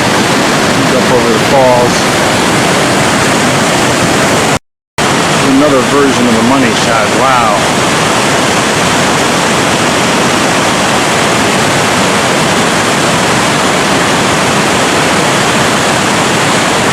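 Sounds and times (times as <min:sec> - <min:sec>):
waterfall roaring: 0:00.0 - 0:16.9.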